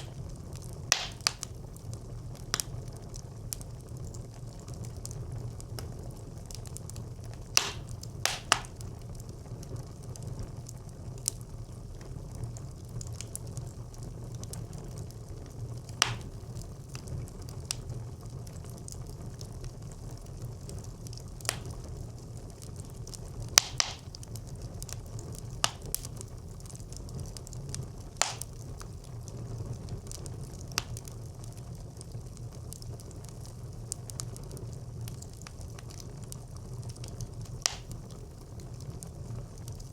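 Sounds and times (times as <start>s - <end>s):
fire crackling and popping: 0.0s - 39.9s
low rumble of fire flames: 0.0s - 39.9s.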